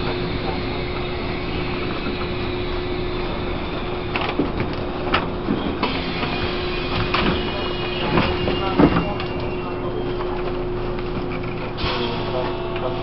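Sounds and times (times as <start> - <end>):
train rumble and rush: 0.0 - 13.0.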